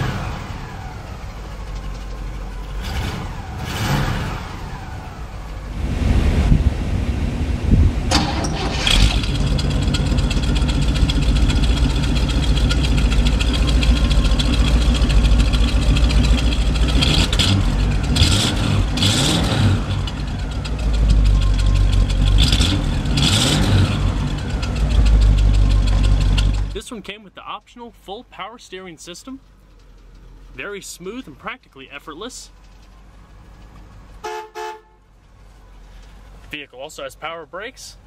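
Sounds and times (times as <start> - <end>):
car engine idling with throttle blips: 0.0 - 26.9, 32.4 - 36.5.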